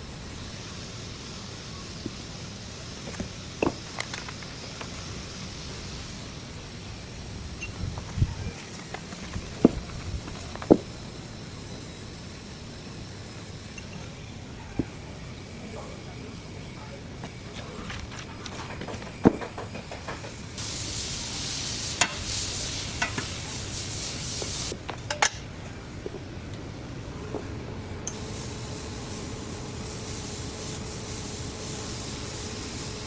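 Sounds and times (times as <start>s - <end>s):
welding arc hissing: 0.0s - 18.6s, 19.5s - 24.8s, 28.1s - 33.0s.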